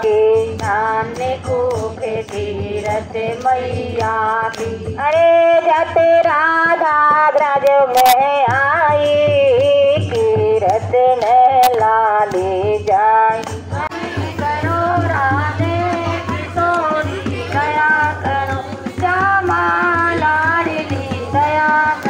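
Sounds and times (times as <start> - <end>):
instrumental accompaniment with beat: 0.0 - 22.0
person singing devotional song: 0.0 - 22.0.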